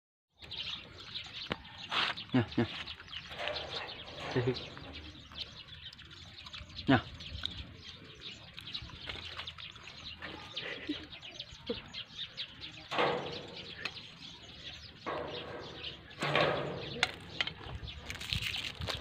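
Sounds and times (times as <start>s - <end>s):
small birds chirping: 0.4s - 19.0s.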